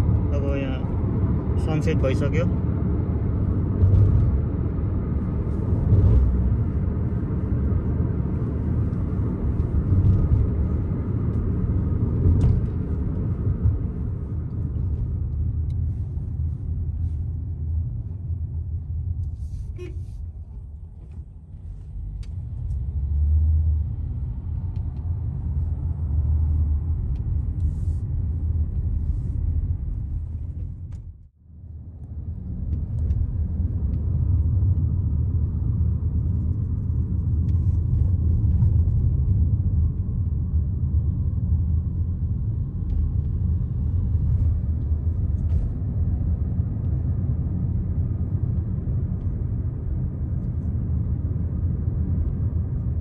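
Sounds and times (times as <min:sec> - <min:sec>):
car driving rumble: 0:00.0 - 0:53.0.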